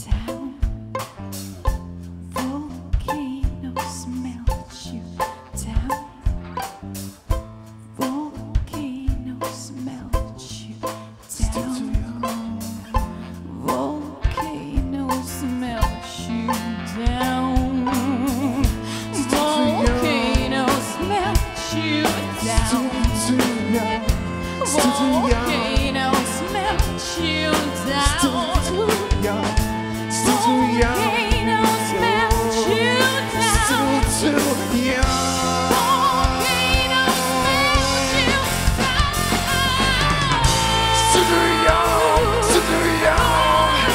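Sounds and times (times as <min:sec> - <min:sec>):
woman singing: 0:00.0 - 0:00.8, 0:02.3 - 0:06.2, 0:08.0 - 0:43.9
live band playing: 0:00.0 - 0:43.9.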